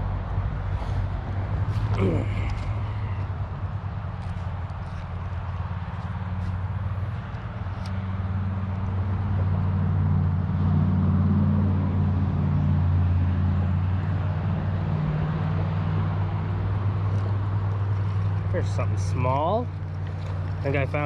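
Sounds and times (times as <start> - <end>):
road traffic rumble: 0.0 - 21.0
vehicle passing by: 0.0 - 21.0.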